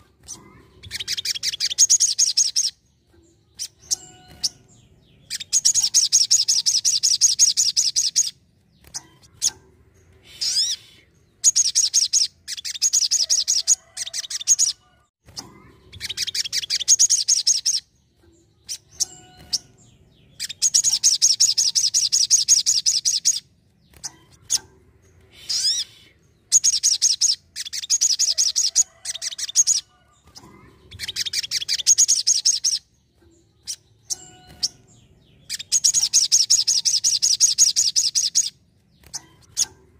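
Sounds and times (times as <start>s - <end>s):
bird singing rapid high trills: 0.0s - 14.8s, 15.4s - 29.8s, 30.4s - 39.7s.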